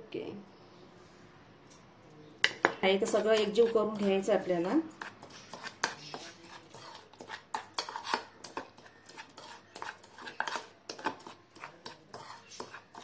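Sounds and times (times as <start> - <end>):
spoon scraping and clinking bowl: 2.4 - 13.0.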